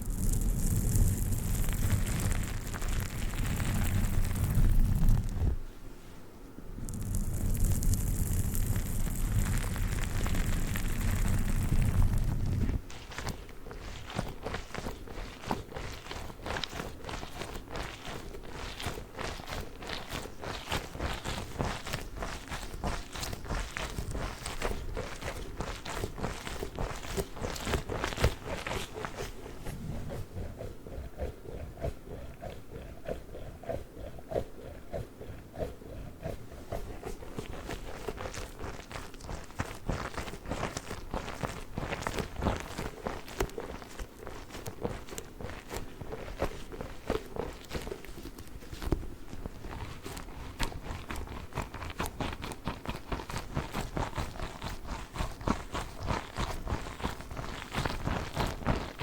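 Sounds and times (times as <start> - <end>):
hands squeezing water-bead ball: 0.0 - 5.6, 6.8 - 59.0.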